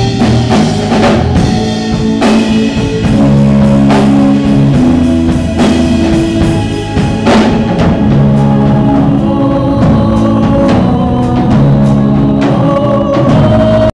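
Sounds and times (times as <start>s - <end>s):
live rock band playing: 0.0s - 13.9s.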